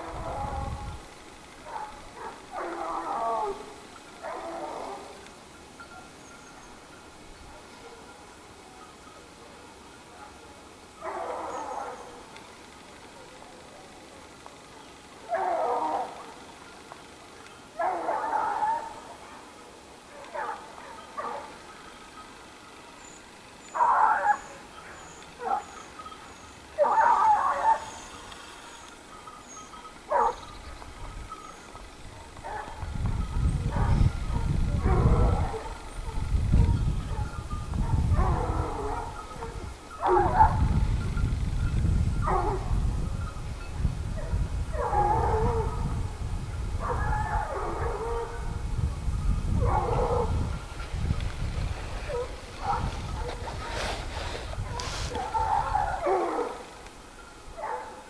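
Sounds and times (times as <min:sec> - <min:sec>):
hounds baying and barking: 0:00.0 - 0:12.4, 0:13.0 - 0:43.4, 0:44.0 - 0:58.0.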